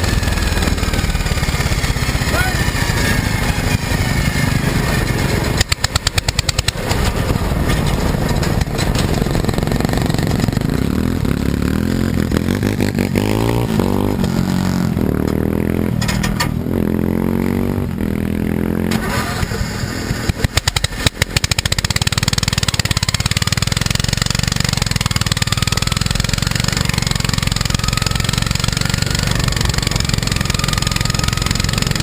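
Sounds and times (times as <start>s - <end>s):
lawn mower engines revving: 0.0s - 32.0s.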